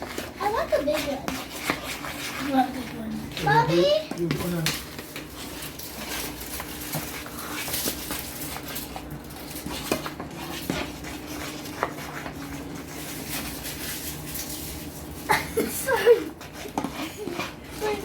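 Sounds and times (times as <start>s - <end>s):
spoon stirring batter in bowl: 0.0s - 18.0s.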